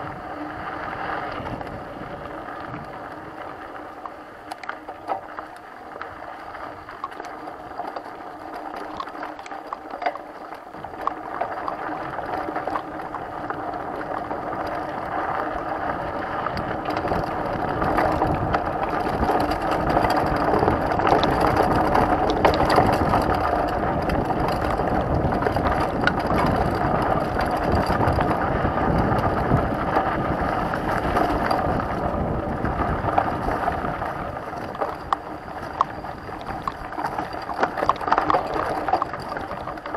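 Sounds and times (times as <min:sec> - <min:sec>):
bike chain and frame rattle: 0:00.0 - 0:39.9
knobby bike tyres on dirt: 0:00.0 - 0:39.9
wind rumble on microphone: 0:00.0 - 0:39.9.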